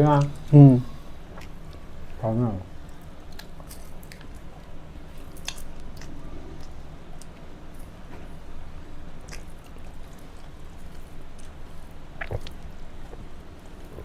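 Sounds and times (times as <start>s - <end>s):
low steady hum: 0.0s - 14.0s
person chewing food: 1.2s - 2.2s, 2.8s - 14.0s.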